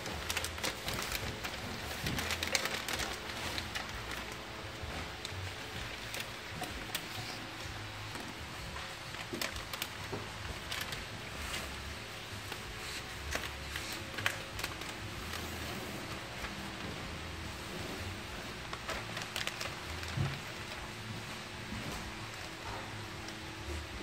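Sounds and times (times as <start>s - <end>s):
plastic film crinkling: 0.0s - 24.0s.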